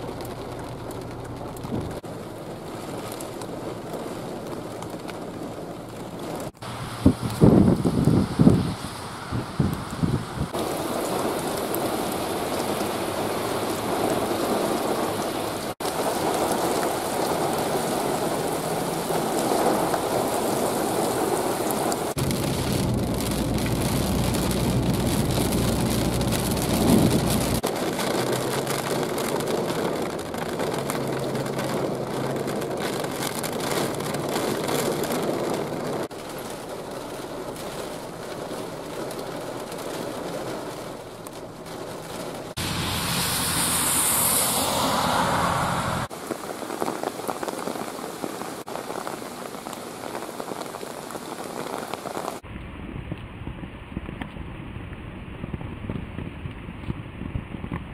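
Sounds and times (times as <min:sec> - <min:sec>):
rain pattering on windshield: 0:00.0 - 0:09.0, 0:09.6 - 0:45.2, 0:46.1 - 0:57.9
car driving through rain: 0:00.0 - 0:57.9
heavy rain on pavement: 0:00.0 - 0:57.9.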